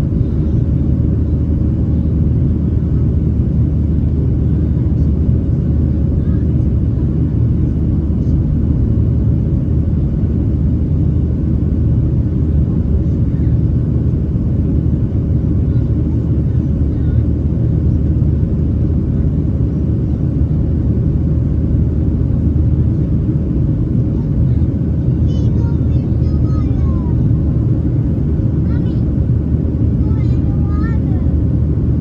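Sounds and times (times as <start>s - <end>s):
faint constant hum: 0.0s - 32.0s
jet engine cabin roar: 0.0s - 32.0s.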